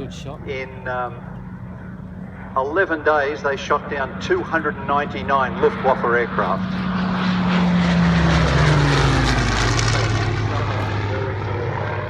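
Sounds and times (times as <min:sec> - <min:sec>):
propeller plane passing by: 0:00.0 - 0:12.0.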